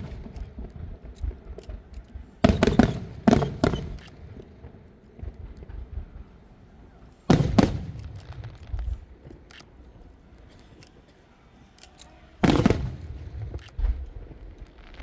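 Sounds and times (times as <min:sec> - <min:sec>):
firework crackling: 0:00.0 - 0:10.3, 0:12.4 - 0:15.0
firework shells bursting: 0:00.0 - 0:15.0.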